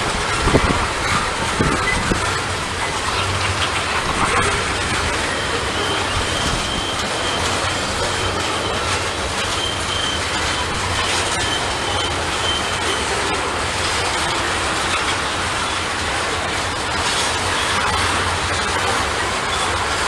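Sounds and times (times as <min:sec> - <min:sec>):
train wheels rumbling on rail: 0:00.0 - 0:20.0
wheels clicking over rail joints: 0:00.0 - 0:20.0
high wheel squeals: 0:00.3 - 0:15.9, 0:16.6 - 0:20.0.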